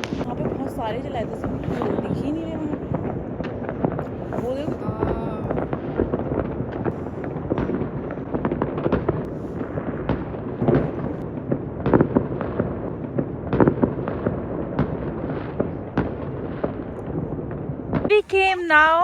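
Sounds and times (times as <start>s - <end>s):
distant fireworks crackling: 0.0s - 19.0s
sharp firework bangs: 0.0s - 19.0s.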